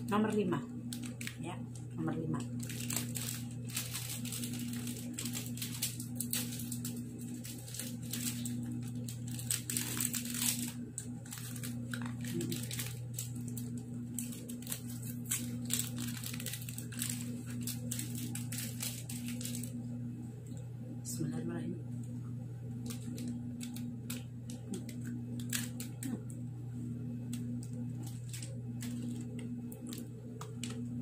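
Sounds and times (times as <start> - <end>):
wrapper crinkling: 0.0 - 19.9, 22.7 - 26.4, 27.2 - 31.0.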